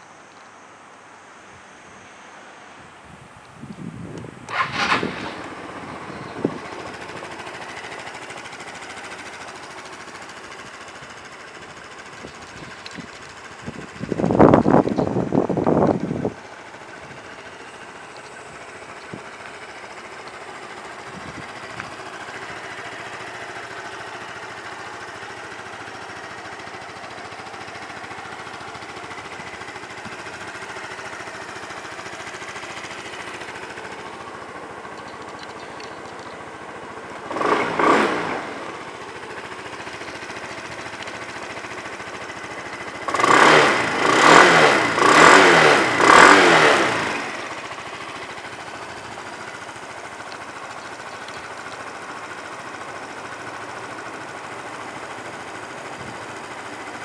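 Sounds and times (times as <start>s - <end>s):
scooter engine idling: 3.8s - 57.0s
scooter engine revving: 4.5s - 57.0s.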